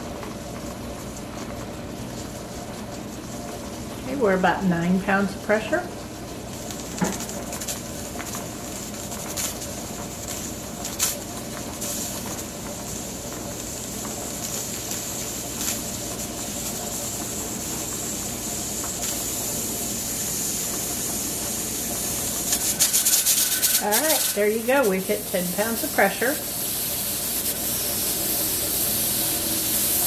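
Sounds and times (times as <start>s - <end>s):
pressure canner hissing steam: 0.0s - 30.0s.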